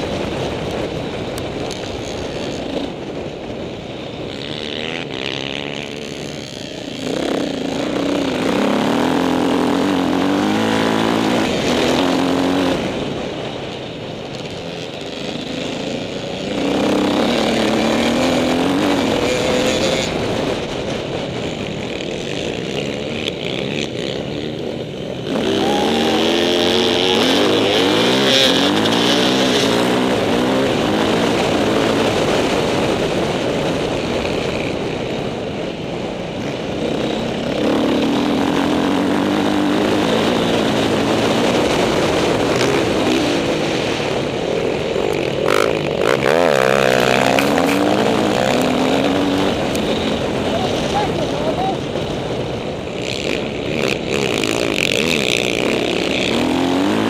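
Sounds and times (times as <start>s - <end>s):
dirt bike engine revving: 0.0s - 57.0s
wind rushing over microphone: 0.0s - 57.0s.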